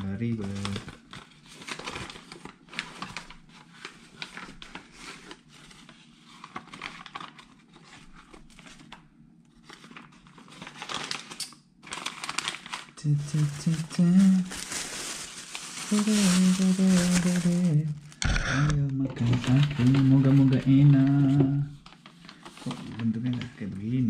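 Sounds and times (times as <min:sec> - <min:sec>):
paper wrapping crinkling: 0:00.0 - 0:24.0.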